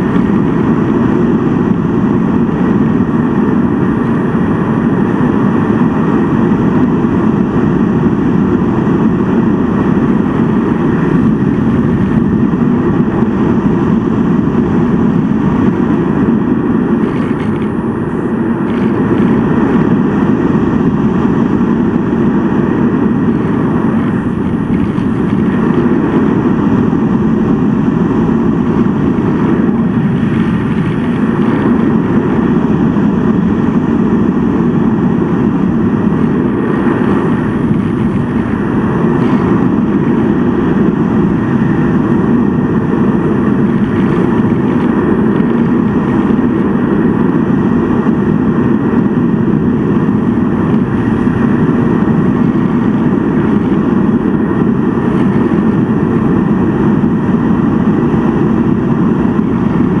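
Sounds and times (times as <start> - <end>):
model plane motor hum: 0.0 - 60.0
rushing airflow: 0.0 - 60.0.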